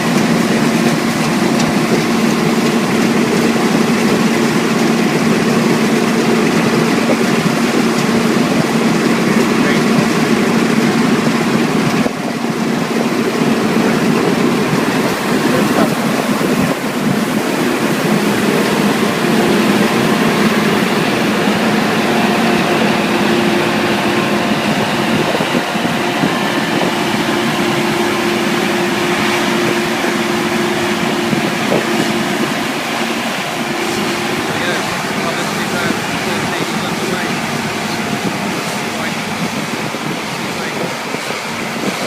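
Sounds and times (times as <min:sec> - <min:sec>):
harvester engine drone: 0:00.0 - 0:42.0.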